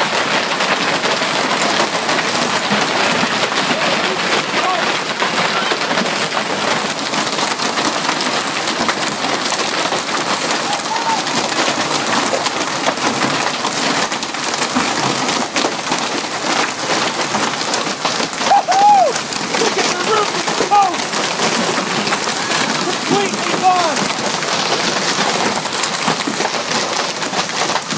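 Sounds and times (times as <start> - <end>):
heavy hail clattering: 0.0 - 27.9.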